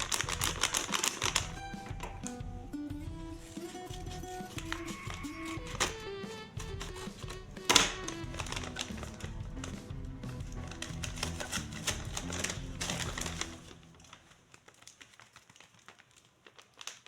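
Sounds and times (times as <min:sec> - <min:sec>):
paper clicks: 0:00.0 - 0:02.2, 0:03.6 - 0:17.0
background music: 0:00.0 - 0:14.2
paper bag rustling and tapping: 0:00.0 - 0:17.0.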